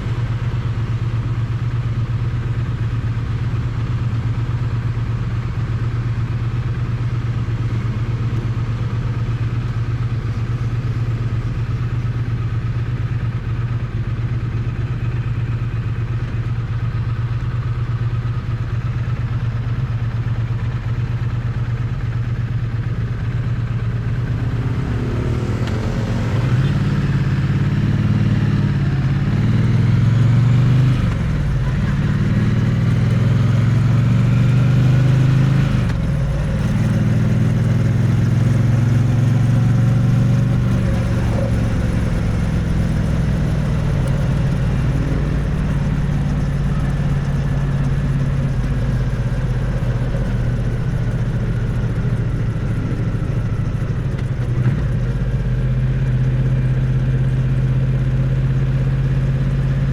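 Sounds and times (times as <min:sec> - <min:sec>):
motorcycle engine running and revving: 0:00.0 - 0:59.9.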